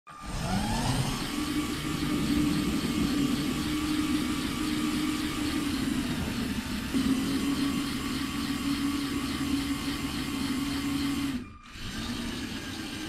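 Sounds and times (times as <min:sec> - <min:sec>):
motor humming whir: 0:00.1 - 0:13.0.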